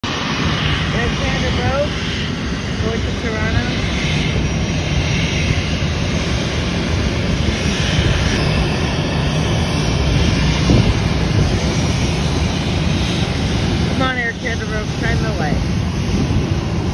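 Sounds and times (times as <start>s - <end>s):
jet engines running: 0.0s - 16.9s.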